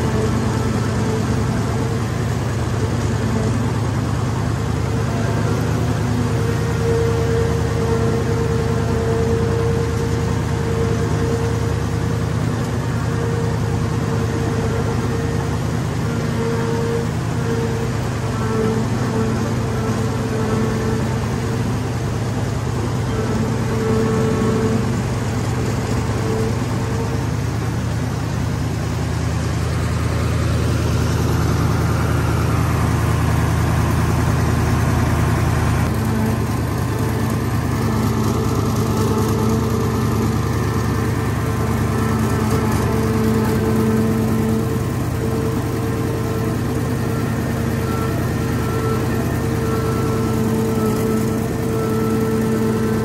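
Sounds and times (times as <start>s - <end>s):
diesel engine running: 0.0s - 53.0s
faint high whine: 0.0s - 53.0s.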